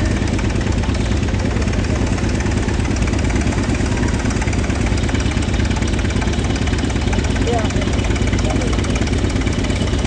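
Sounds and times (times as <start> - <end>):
air compressor engine running: 0.0 - 10.0.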